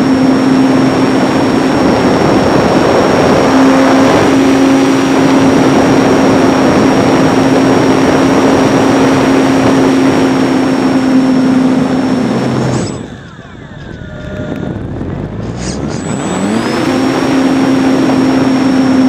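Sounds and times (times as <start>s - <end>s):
electric motor and propeller whine: 0.0s - 19.0s
wind rushing over microphone: 0.0s - 19.0s.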